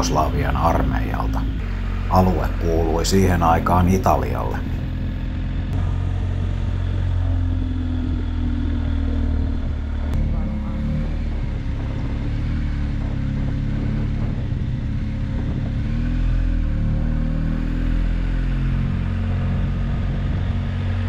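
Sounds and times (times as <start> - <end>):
motorcycle engine running: 0.0 - 21.0
wind and road rumble: 0.0 - 21.0.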